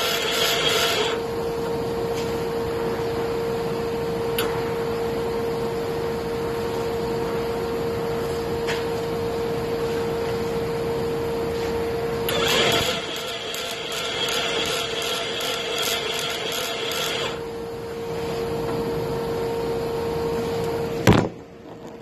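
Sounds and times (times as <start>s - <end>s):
welder high-pitched hum and hiss: 0.0s - 22.0s.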